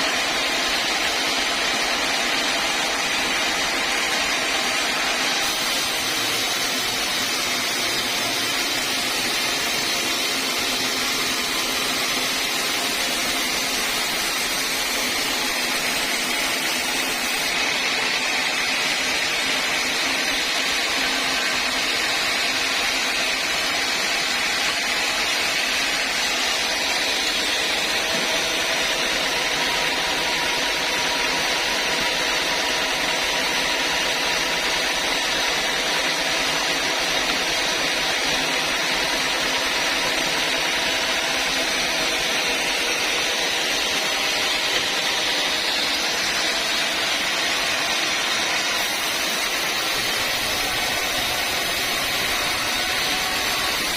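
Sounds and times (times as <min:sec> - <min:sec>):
sawmill machinery drone: 0:00.0 - 0:53.9.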